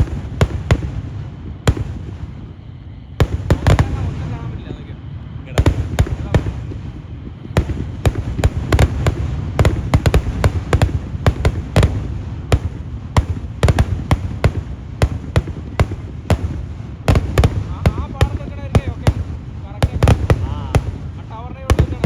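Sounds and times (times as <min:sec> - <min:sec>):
firecracker bangs: 0:00.0 - 0:04.8, 0:05.5 - 0:22.0.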